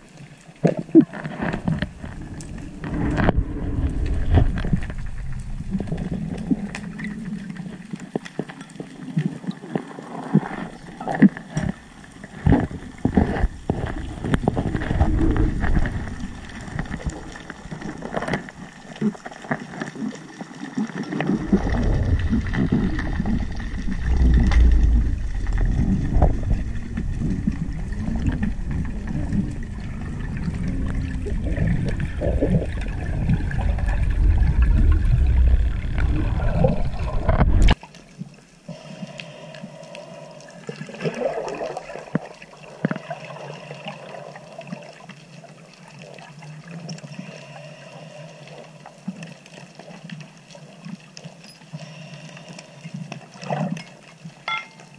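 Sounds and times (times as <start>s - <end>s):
faint underwater clicks: 0.0s - 54.9s
churning underwater rush: 0.9s - 8.5s, 9.3s - 50.1s.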